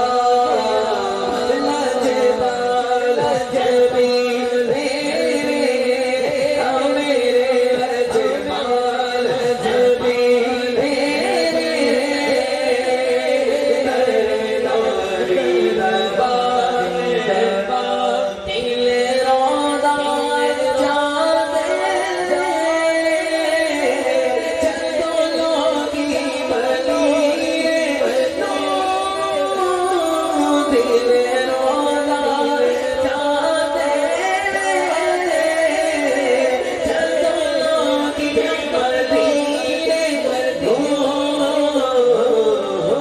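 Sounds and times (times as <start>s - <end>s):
man singing devotional song: 0.0s - 43.0s.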